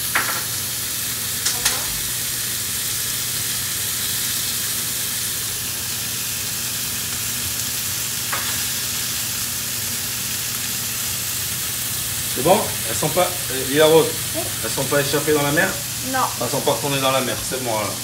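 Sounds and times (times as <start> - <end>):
shrimp sizzling in a pan: 0.0 - 18.0.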